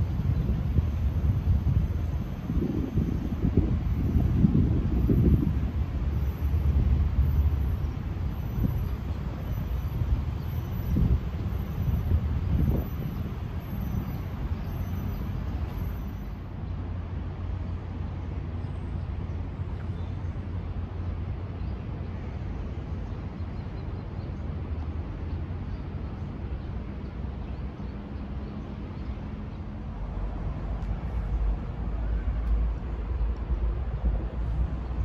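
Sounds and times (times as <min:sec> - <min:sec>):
city traffic rumble: 0:00.0 - 0:35.0.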